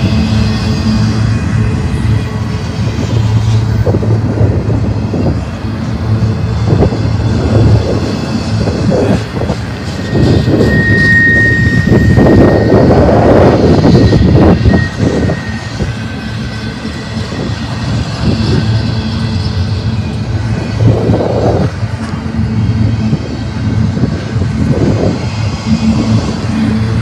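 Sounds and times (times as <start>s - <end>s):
high wheel squeal: 0.0s - 27.0s
train wheels rumbling on rail: 0.0s - 27.0s.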